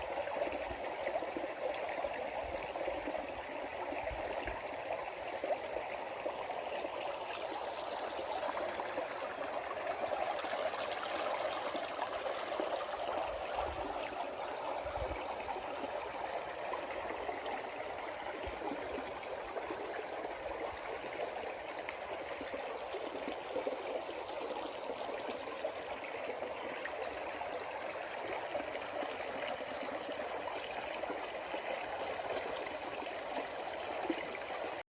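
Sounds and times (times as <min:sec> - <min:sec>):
creek water flowing: 0:00.0 - 0:34.8.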